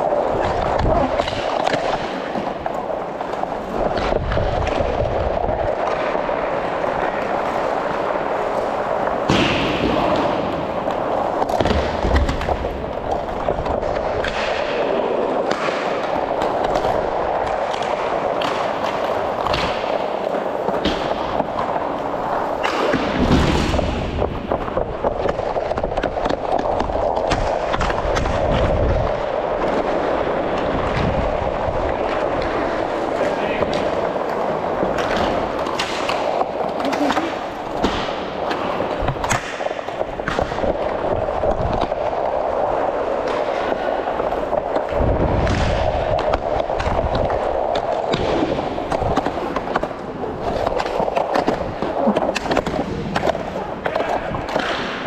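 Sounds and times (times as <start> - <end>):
skate wheels rolling on plastic floor: 0.0 - 55.0
sticks and puck clacking: 0.0 - 55.0.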